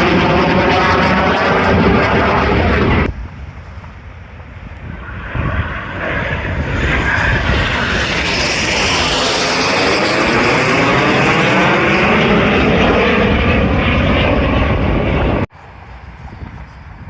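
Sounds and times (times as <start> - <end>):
aircraft sound: 0.0 - 17.0
military aircraft engine noise: 0.0 - 17.0.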